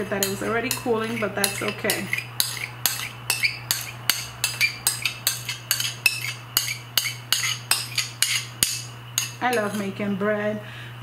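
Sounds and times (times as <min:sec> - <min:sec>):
metal spoon scraping a bowl: 0:00.0 - 0:10.0
steady low hum: 0:00.0 - 0:11.0.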